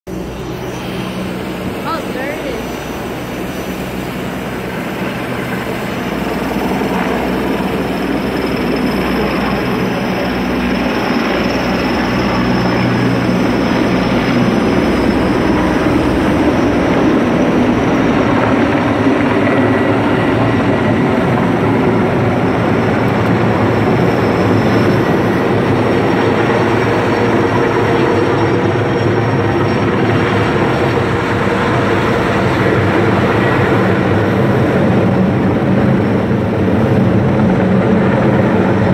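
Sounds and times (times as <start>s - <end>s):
helicopter rotor and turbine rumble: 0.1s - 38.9s.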